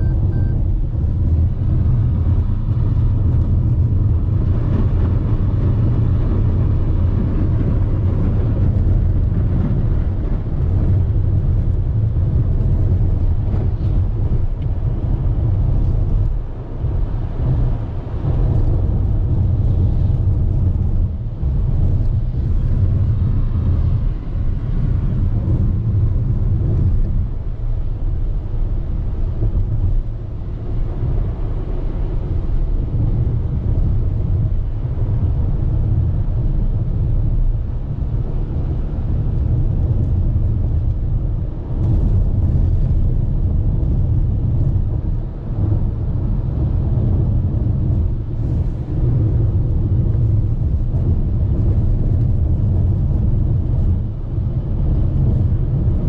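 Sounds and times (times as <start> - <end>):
car interior road rumble: 0.0 - 56.0.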